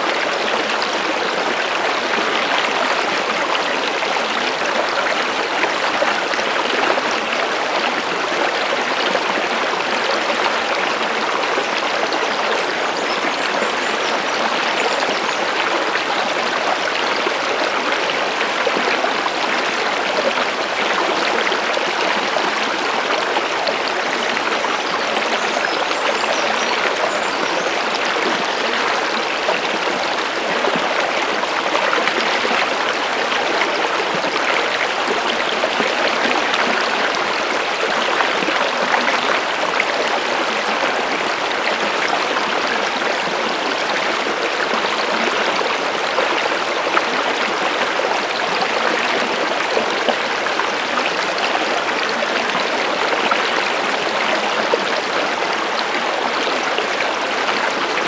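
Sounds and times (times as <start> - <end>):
stream water rushing and babbling: 0.0 - 58.0.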